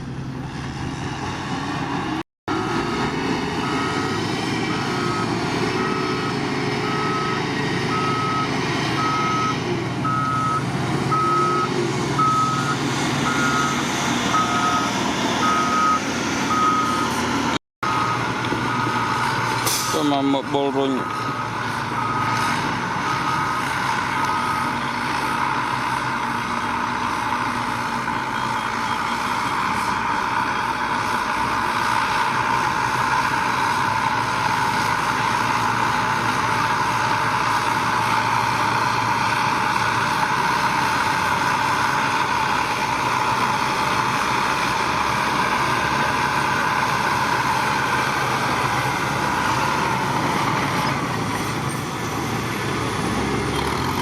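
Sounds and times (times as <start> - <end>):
construction machinery engine drone: 0.0 - 54.0.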